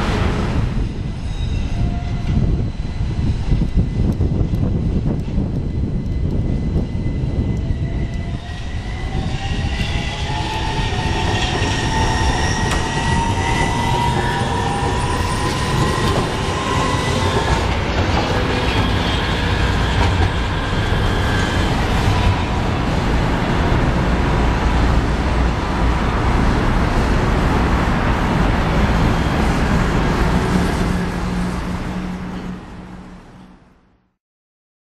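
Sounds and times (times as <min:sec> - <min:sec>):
tram wheels rumbling on rail: 0:00.0 - 0:33.7
tram whining tones: 0:00.0 - 0:33.7.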